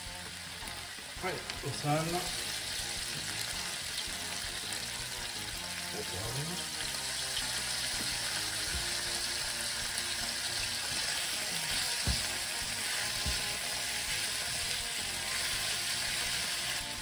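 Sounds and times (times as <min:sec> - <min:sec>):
meat sizzling in oil: 0:00.0 - 0:17.0.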